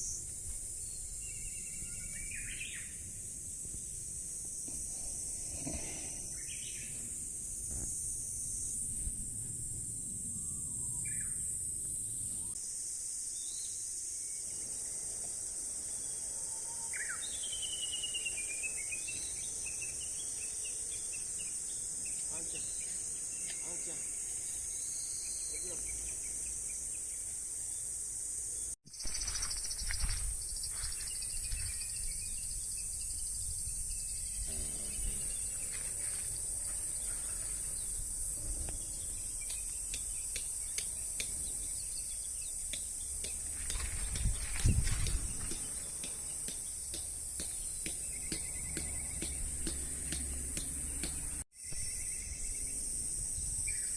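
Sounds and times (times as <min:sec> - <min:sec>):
high-pitched insect chorus: 0:00.0 - 0:53.9.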